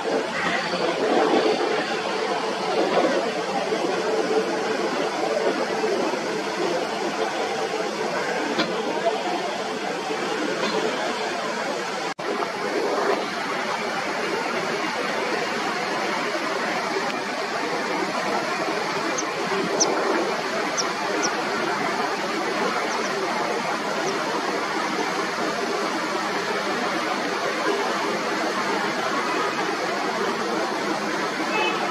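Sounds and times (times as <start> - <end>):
steady outdoor rush: 0.0 - 31.9.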